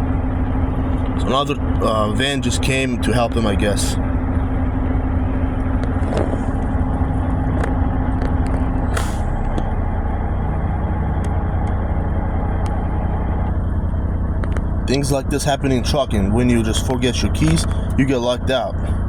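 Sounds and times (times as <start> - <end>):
steady hum: 0.0 - 19.0
truck engine idling: 0.0 - 19.0.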